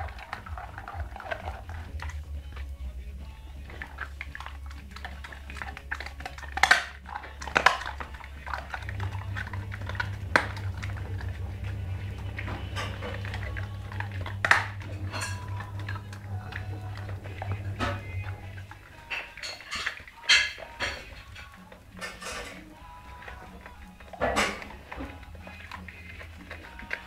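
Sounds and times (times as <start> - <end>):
dog gnawing a bone: 0.0 - 27.0
teeth cracking on bone: 0.0 - 27.0.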